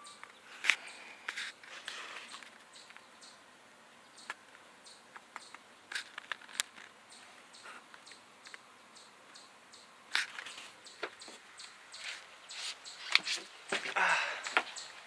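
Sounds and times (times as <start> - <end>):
nestlings peeping: 0.0 - 15.0.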